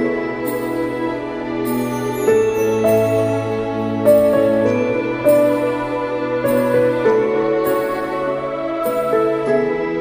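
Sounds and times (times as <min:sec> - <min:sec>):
soft slow background music: 0:00.0 - 0:10.0.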